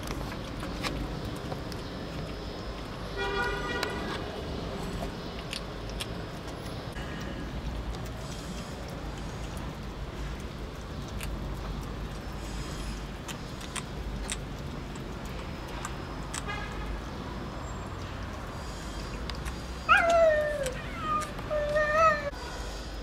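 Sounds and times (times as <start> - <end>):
cats eating wet food: 0.0 - 22.9.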